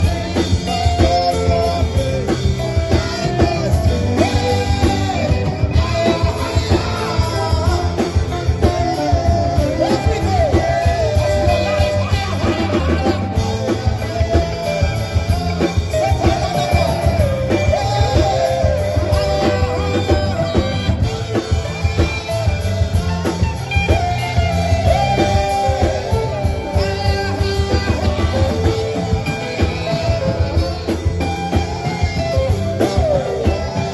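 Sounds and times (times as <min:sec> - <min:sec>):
guitar: 0:00.0 - 0:33.9
person singing: 0:00.0 - 0:33.9
steady beat: 0:00.0 - 0:33.9.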